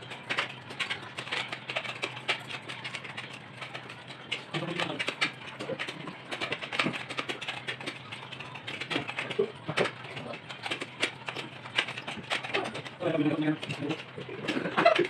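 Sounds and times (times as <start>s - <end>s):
utensils clinking on plates: 0.0s - 15.0s.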